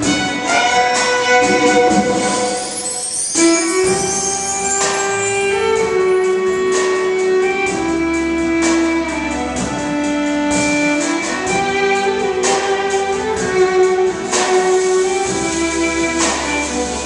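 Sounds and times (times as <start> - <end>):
string orchestra: 0.0 - 17.0
solo fiddle melody: 0.6 - 17.0.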